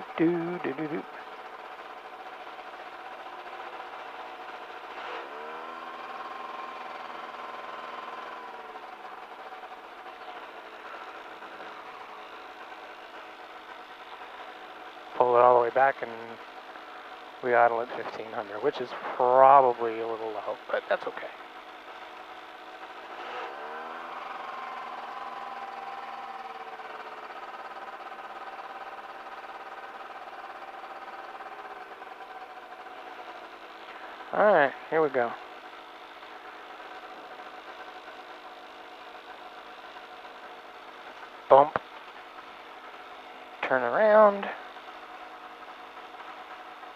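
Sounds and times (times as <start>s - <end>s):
aircraft piston engine running: 0.0s - 46.9s.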